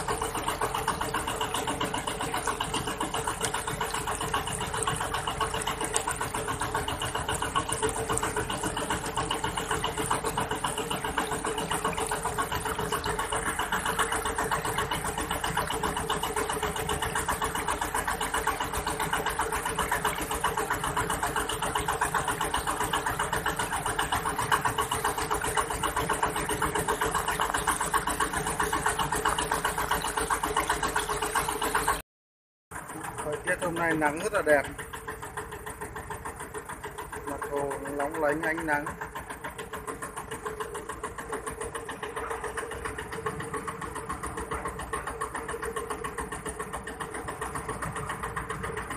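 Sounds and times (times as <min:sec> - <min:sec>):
boat engine running: 0:00.0 - 0:32.0, 0:32.7 - 0:48.9.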